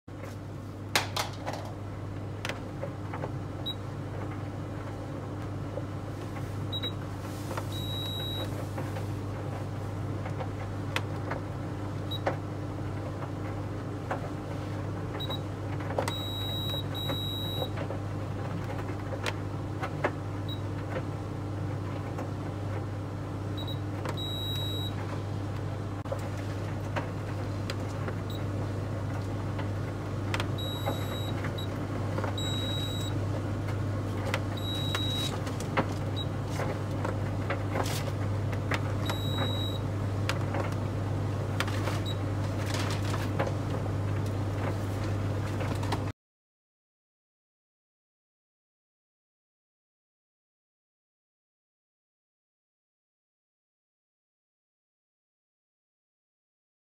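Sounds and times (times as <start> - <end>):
tumble dryer humming: 0.1 - 46.1.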